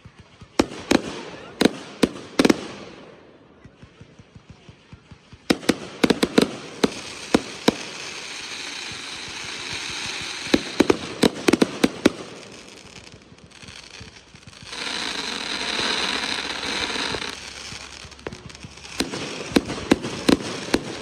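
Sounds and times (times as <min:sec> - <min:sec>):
fireworks bangs: 0:00.1 - 0:21.0.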